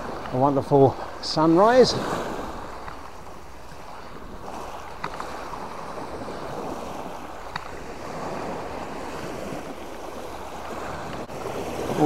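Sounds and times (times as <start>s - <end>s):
waves washing up pebble beach: 0.0s - 12.0s.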